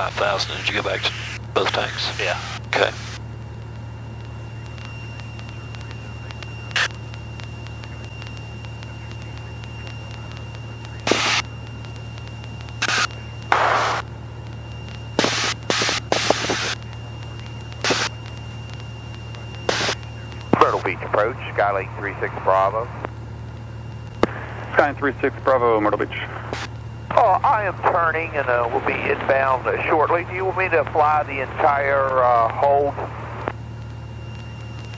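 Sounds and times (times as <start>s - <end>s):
airplane engine drone: 0.0s - 34.9s
crackling bursts: 0.0s - 34.9s.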